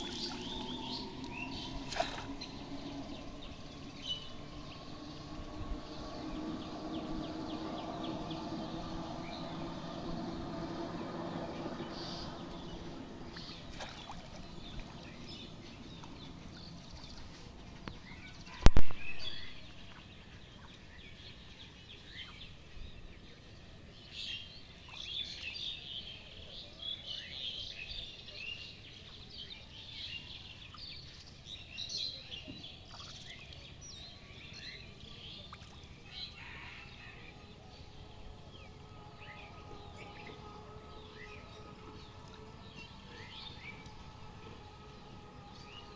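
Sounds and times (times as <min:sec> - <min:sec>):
faint steady drone: 0:00.0 - 0:45.9.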